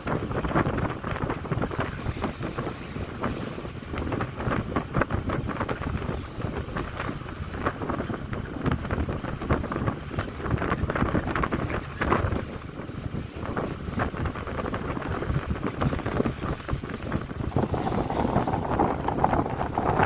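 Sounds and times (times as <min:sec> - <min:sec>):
low rumble: 0:00.0 - 0:20.0
water rushing along hull: 0:00.0 - 0:20.0
wind buffeting microphone: 0:00.0 - 0:20.0.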